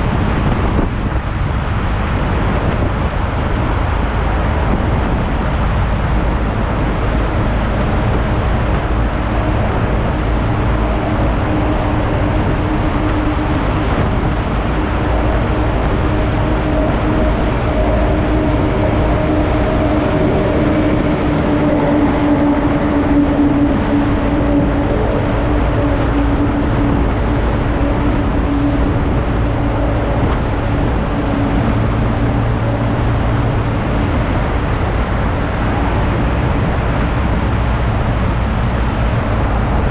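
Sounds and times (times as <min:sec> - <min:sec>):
motorcycle engine drone: 0:00.0 - 0:39.9
wind and road noise: 0:00.0 - 0:39.9.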